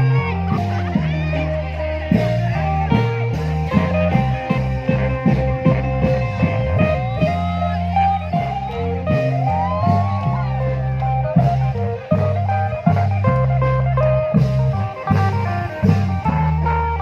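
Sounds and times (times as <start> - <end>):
lively drum beat: 0.0 - 17.0
low bass notes: 0.0 - 17.0
pitch-bending melody: 0.0 - 17.0.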